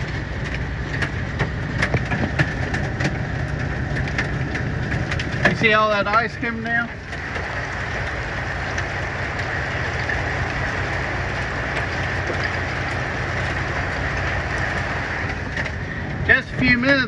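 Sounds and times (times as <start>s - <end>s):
hail and rain drumming on truck roof: 0.0s - 17.0s
steady low rumble: 0.0s - 17.0s.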